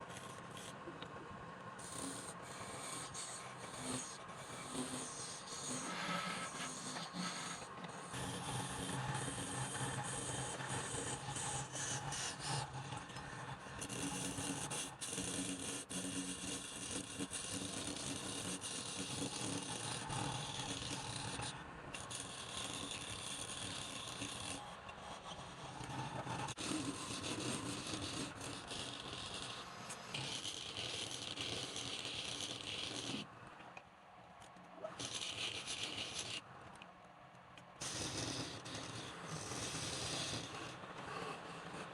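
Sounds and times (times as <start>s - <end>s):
turning tool scraping wood: 2.0s - 33.3s, 37.8s - 41.9s.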